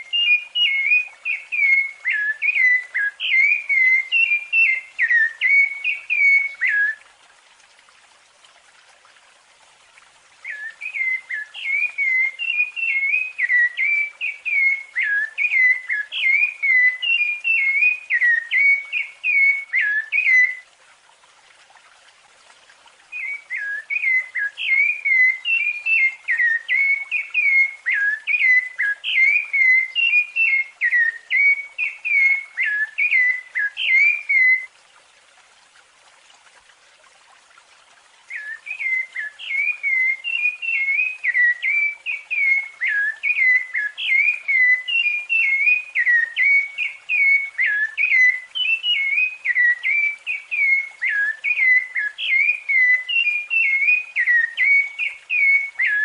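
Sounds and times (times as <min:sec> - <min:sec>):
thrush whistled song: 0:00.0 - 0:07.1, 0:10.4 - 0:20.7, 0:23.1 - 0:34.7, 0:38.2 - 0:56.0.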